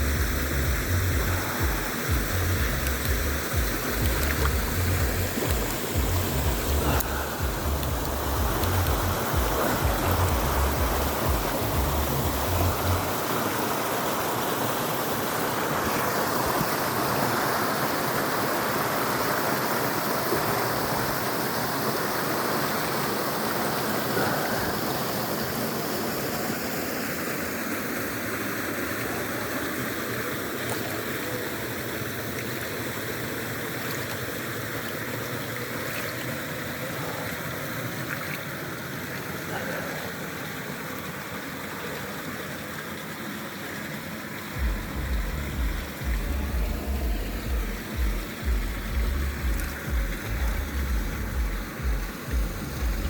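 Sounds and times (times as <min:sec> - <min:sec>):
waterfall rushing and splashing: 0:00.0 - 0:53.0.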